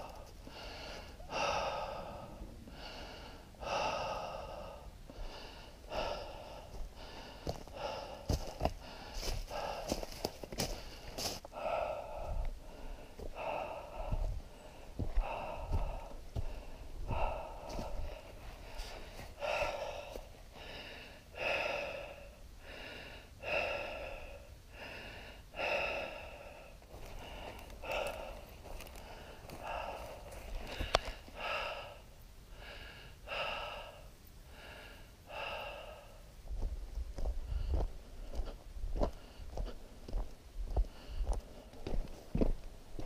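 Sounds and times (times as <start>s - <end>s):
person breathing: 0.0s - 42.2s.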